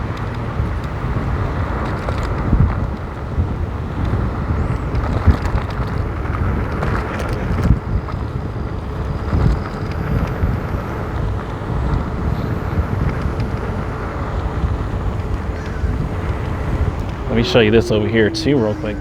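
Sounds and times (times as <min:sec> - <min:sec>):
scooter tyres on wet road: 0:00.0 - 0:17.3
wind on microphone: 0:00.0 - 0:19.0.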